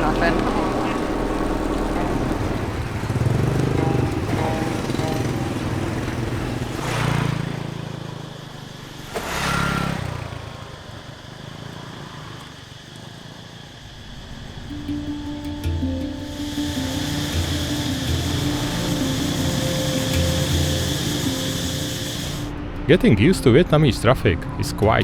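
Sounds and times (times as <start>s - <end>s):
motorbike engines running: 0.0s - 25.0s.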